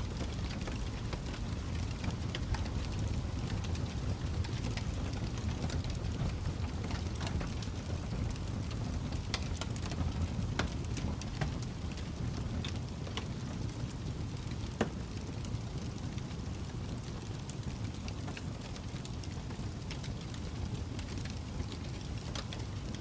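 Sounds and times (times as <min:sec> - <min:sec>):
low rumble of storm wind: 0:00.0 - 0:23.0
wood fire crackling and popping: 0:00.0 - 0:23.0.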